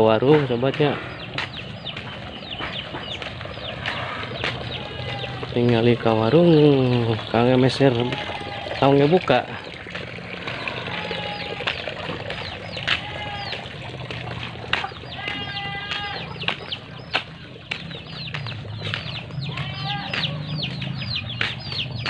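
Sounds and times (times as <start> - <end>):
chickens chirping: 0.0 - 22.0.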